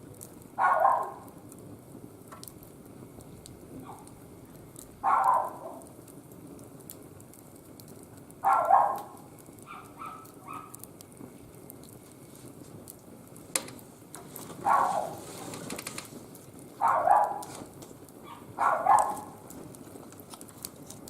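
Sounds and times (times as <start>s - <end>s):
wood fire crackling in a grill: 0.0s - 21.0s.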